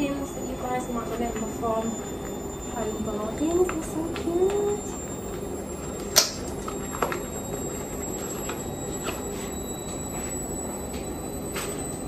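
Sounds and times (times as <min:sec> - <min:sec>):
tumble dryer humming: 0:00.0 - 0:12.0.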